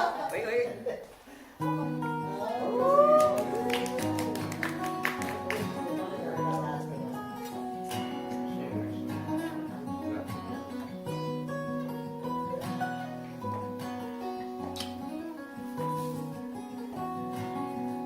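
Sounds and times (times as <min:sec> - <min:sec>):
acoustic guitar strumming chords: 0:01.6 - 0:18.0.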